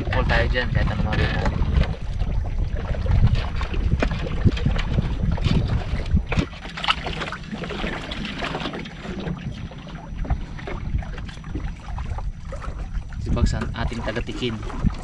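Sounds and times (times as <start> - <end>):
water splashes: 0.0 - 15.0
wind rumble on microphone: 0.0 - 15.0.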